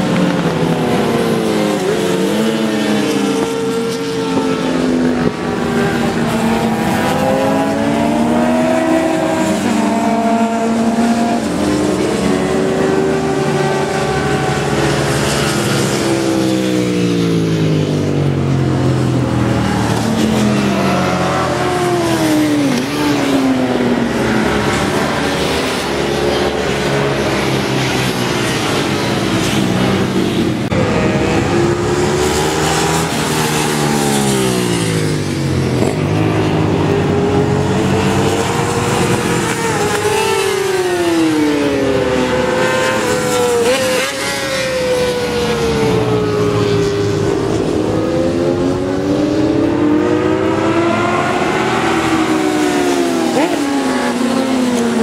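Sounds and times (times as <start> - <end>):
race motorcycles passing: 0.0 - 55.0.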